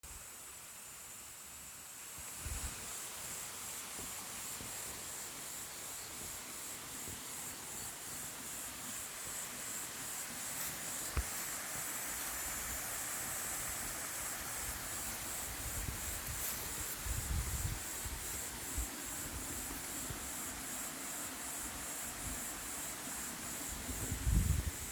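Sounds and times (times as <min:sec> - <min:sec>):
forest insects buzzing: 0:00.1 - 0:24.9.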